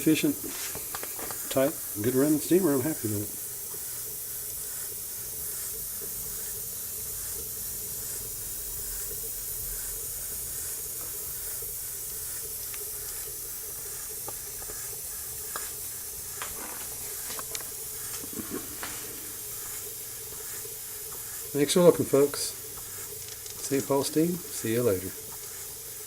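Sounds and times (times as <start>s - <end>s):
steam engine hissing and chuffing: 0.0s - 26.0s.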